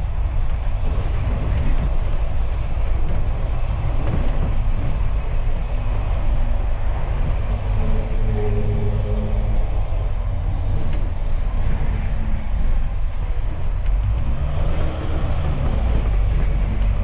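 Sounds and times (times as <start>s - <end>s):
bus engine drone: 0.0s - 17.0s
road rumble: 0.0s - 17.0s.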